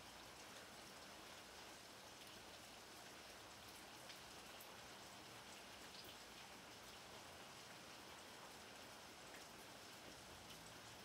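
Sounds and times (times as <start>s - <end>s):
light rain hissing: 0.0s - 11.0s.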